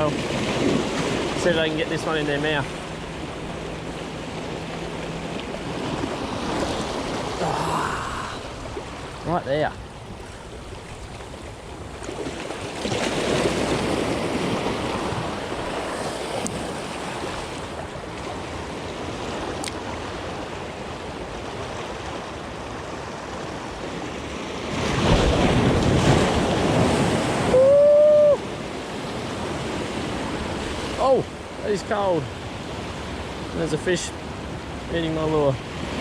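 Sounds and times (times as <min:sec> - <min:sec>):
ocean waves on rocky shore: 0:00.0 - 0:36.0.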